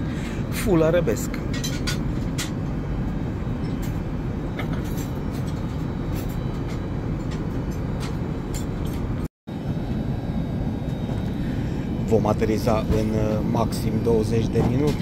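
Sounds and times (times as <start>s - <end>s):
aircraft cabin drone: 0.0s - 15.0s.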